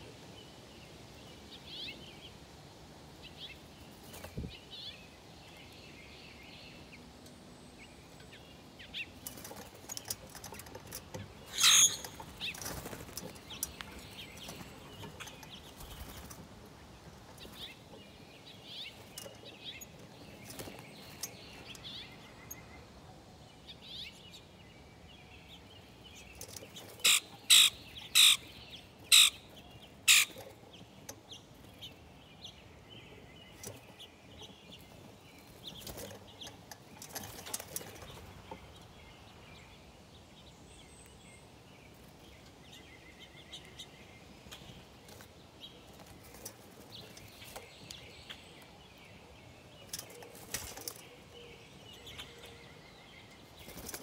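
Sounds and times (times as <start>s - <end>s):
small birds chirping softly: 0.0s - 54.0s.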